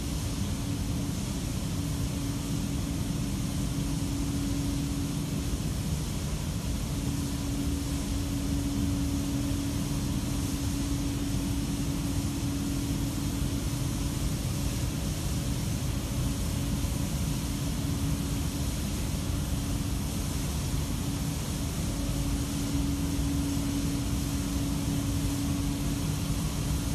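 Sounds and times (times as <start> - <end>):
machinery droning and humming: 0.0 - 26.9.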